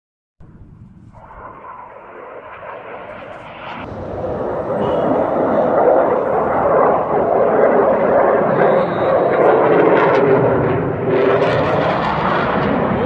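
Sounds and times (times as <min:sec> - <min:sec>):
fighter jet engine noise: 0:01.0 - 0:13.0.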